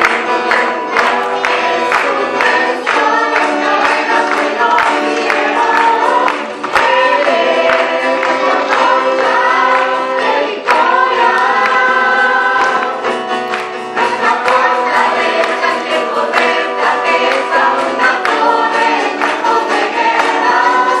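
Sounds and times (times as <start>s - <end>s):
choir singing: 0.0s - 21.0s
strummed guitar: 0.0s - 21.0s.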